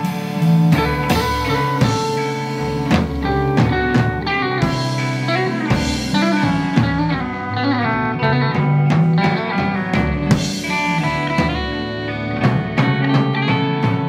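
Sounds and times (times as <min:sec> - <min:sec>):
drum kit beat: 0:00.0 - 0:14.0
electric guitars with bending notes: 0:00.0 - 0:14.0.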